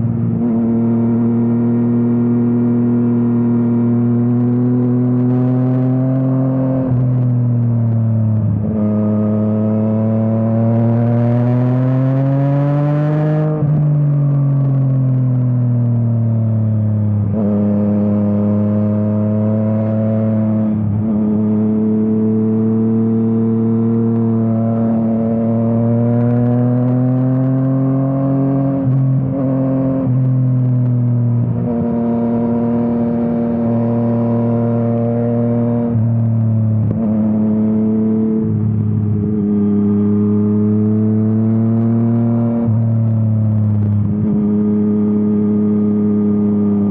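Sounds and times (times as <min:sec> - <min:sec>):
motorcycle engine shifting gears: 0:00.0 - 0:46.9.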